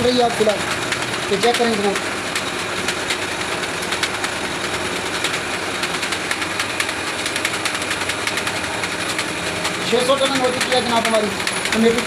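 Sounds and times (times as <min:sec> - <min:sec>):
coil winding machine ticking: 0:00.0 - 0:12.0.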